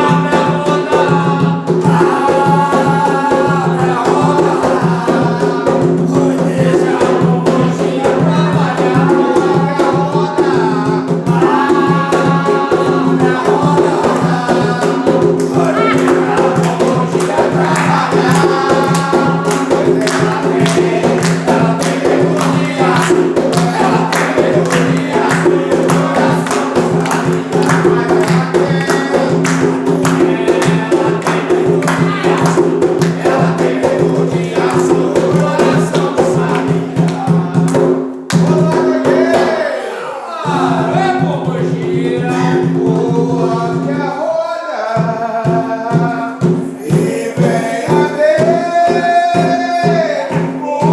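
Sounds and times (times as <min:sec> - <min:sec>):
group singing a ritual chant: 0:00.0 - 0:50.9
percussion beats: 0:00.0 - 0:50.9.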